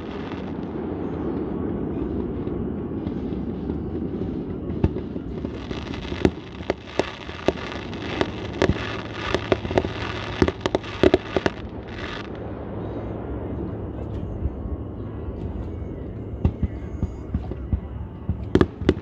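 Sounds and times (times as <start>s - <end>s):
fireworks popping and crackling: 0.0s - 13.0s, 16.4s - 19.0s
fireworks bangs: 0.0s - 19.0s.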